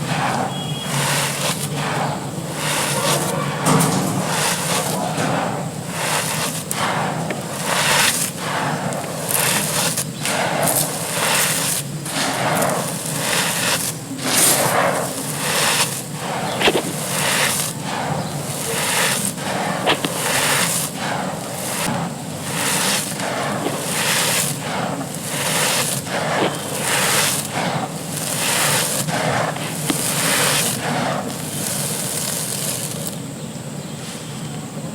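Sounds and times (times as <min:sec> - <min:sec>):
clay and sand crumbling by hand: 0:00.0 - 0:33.9.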